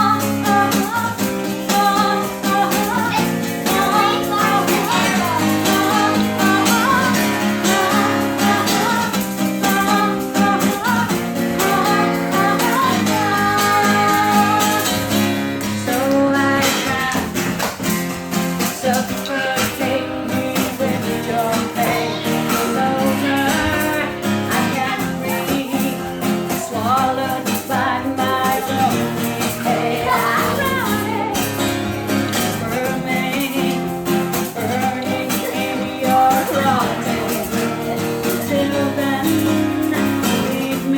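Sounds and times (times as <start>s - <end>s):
acoustic guitar playing: 0.0s - 40.9s
person singing: 0.0s - 40.9s.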